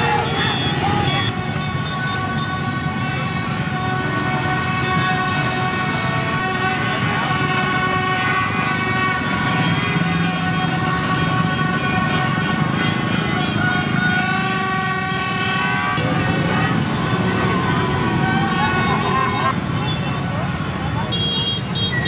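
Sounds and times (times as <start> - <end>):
crowd voices: 0.0 - 22.0
horns honking: 0.0 - 22.0
motorbike engines: 0.0 - 22.0.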